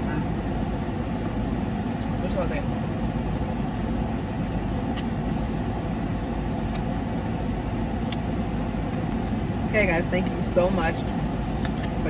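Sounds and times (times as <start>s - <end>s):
air conditioning blower noise: 0.0s - 12.0s.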